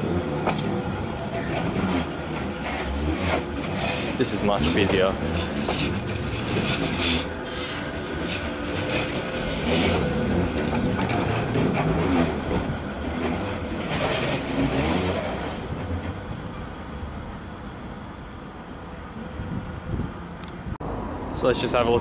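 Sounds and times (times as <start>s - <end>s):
tram wheels grinding on rails: 0.0s - 20.4s.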